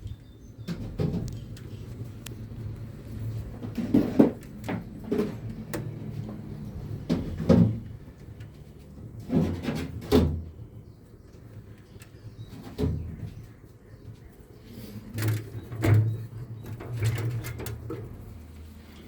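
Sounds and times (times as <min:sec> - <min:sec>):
knocks and scrapes: 0:00.6 - 0:10.8, 0:12.3 - 0:19.0.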